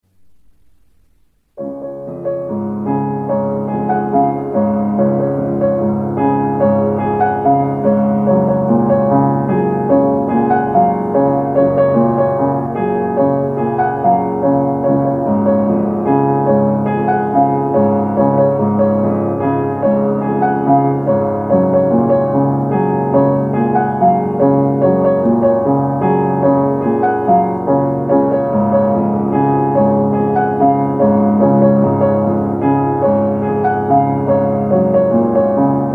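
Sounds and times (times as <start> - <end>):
solo piano piece: 0.0 - 35.9.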